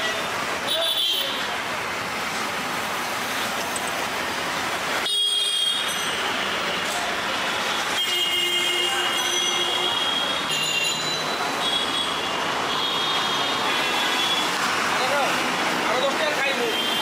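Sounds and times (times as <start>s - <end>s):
busy street traffic: 0.0s - 17.0s.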